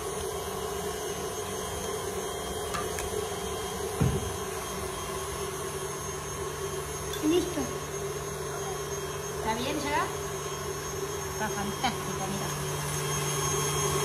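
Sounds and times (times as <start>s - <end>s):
electric mixer running: 0.0s - 14.0s.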